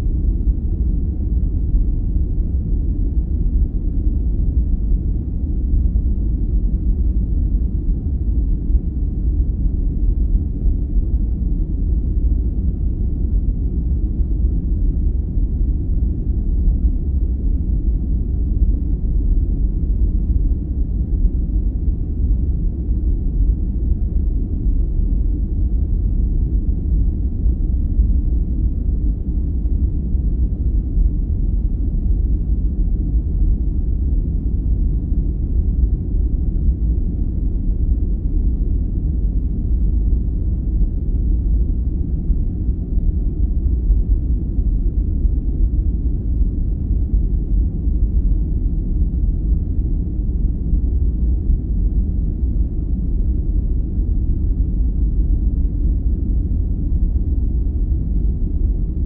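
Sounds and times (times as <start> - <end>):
deep rumbling noise: 0.0 - 59.0.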